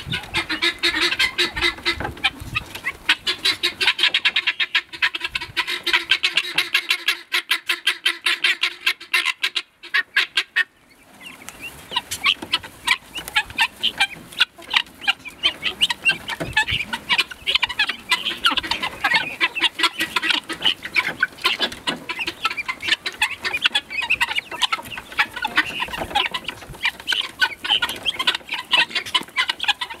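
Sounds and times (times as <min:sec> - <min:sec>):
guineafowl calling: 0:00.0 - 0:30.0.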